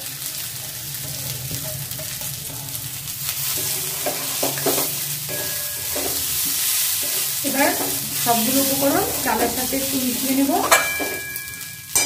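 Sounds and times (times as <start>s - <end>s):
food sizzling in oil: 0.0s - 12.0s
metal spatula scraping pan: 0.2s - 12.0s.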